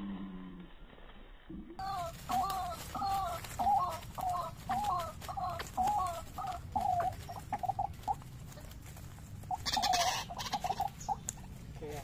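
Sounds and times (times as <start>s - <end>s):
waterhen calling: 1.8s - 11.9s
loud rustling flurry: 1.8s - 12.0s.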